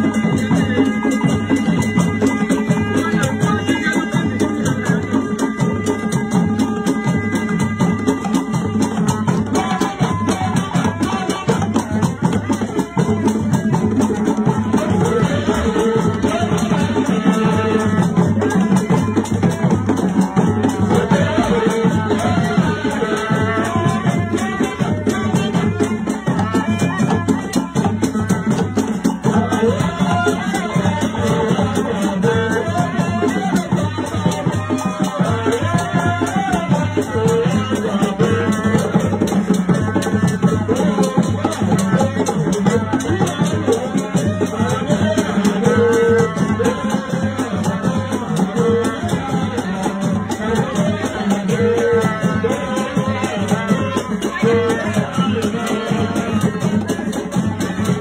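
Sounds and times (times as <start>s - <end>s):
drums and rattles playing: 0.0s - 58.0s.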